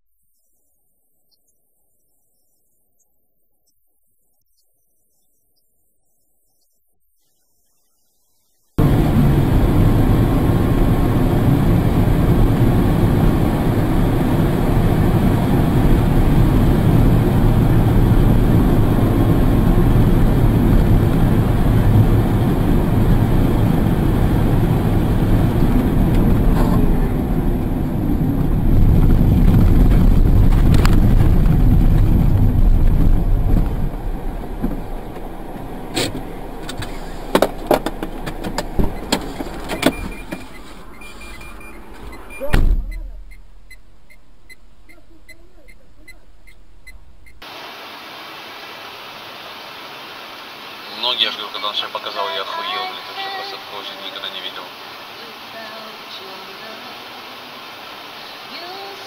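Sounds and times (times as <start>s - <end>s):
car road and engine noise: 8.8s - 59.0s.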